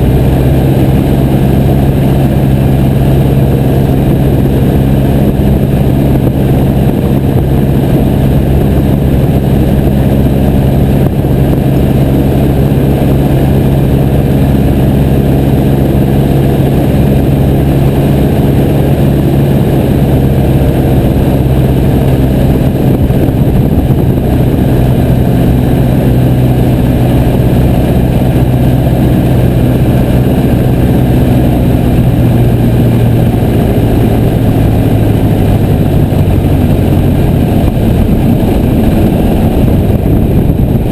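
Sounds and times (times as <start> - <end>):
light aircraft engine running: 0.0 - 40.9.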